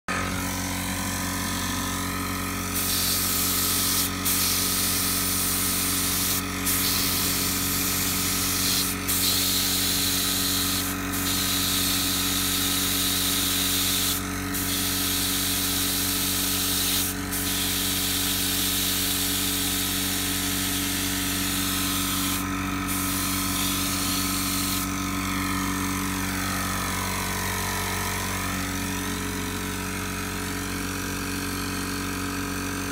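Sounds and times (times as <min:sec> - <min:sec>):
steady motor hum: 0:00.1 - 0:32.9
paint spray gun hissing: 0:00.2 - 0:27.6.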